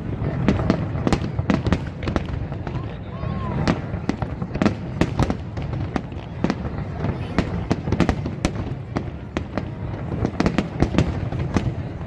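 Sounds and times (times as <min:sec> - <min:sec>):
firework bangs: 0:00.0 - 0:12.0.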